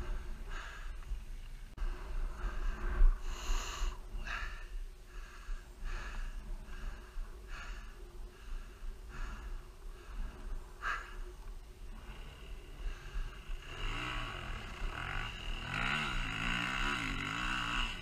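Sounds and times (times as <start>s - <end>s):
heavy rhythmic breathing: 0.0s - 18.0s
low steady rumble: 0.0s - 18.0s.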